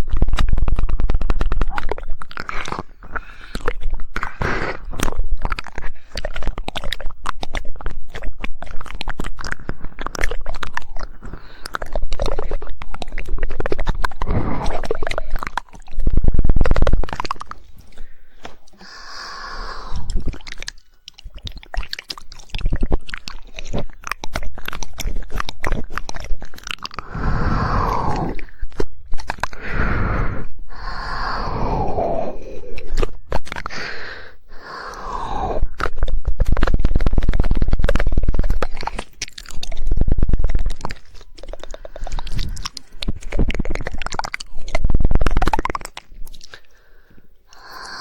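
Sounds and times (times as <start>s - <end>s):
tongue clicks and mouth noises: 0.0s - 48.0s.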